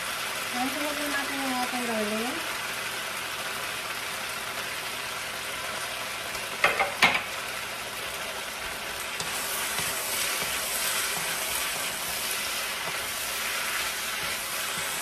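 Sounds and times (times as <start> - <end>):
meat and onion sizzling in a pan: 0.0 - 15.0.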